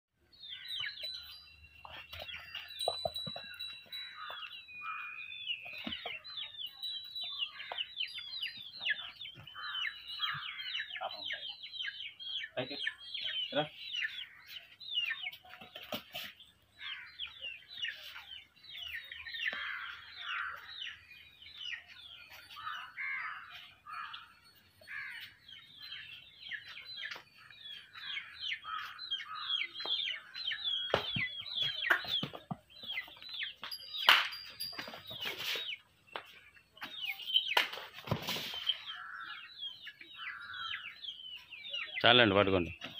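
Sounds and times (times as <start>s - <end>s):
small birds chirping: 0.2s - 42.9s.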